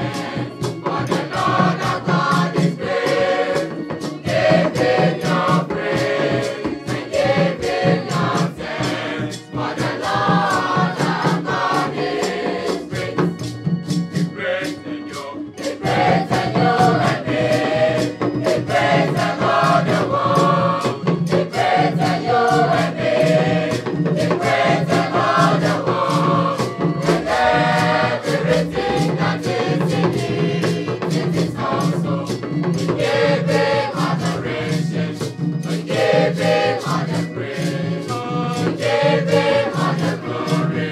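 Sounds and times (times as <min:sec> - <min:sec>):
choir singing in parts: 0:00.0 - 0:40.9
hand drums: 0:00.0 - 0:40.9.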